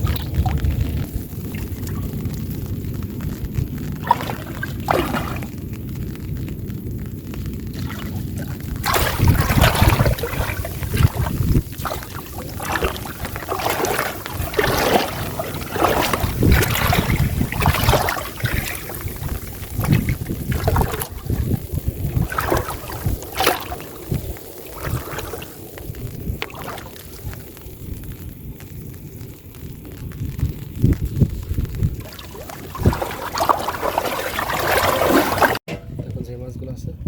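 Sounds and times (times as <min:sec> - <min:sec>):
water splashing and sloshing: 0:00.0 - 0:35.7.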